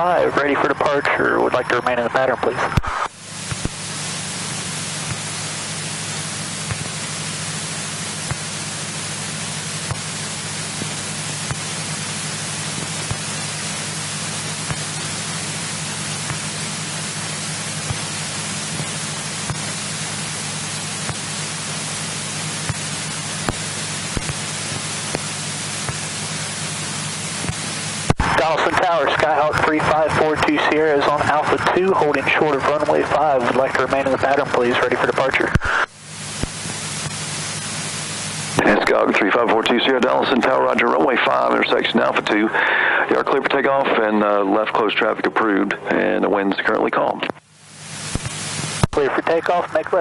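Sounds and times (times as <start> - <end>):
low hum: 0.0 - 50.0
radio static hiss: 0.0 - 50.0.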